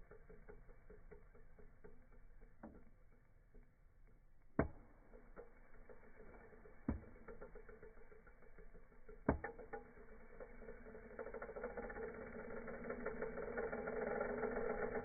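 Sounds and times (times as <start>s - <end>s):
slowed vacuum cleaner motor ticking: 0.0s - 15.0s.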